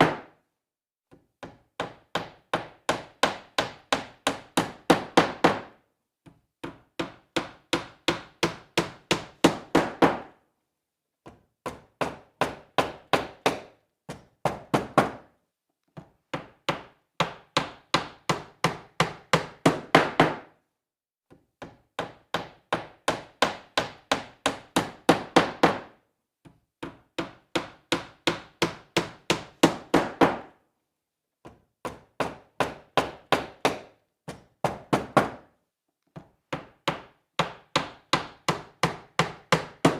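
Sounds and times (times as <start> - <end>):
hammer driving nails into wood: 0.0 - 0.4, 1.1 - 10.4, 11.2 - 15.3, 16.0 - 20.6, 21.3 - 30.6, 31.4 - 39.9.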